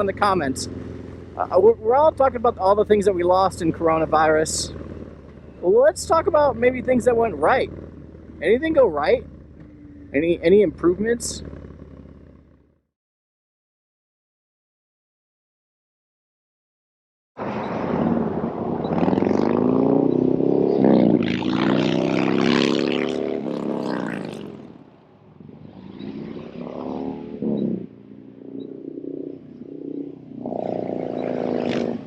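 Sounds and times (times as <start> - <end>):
motorcycle engine accelerating: 0.0 - 12.8, 17.4 - 32.0.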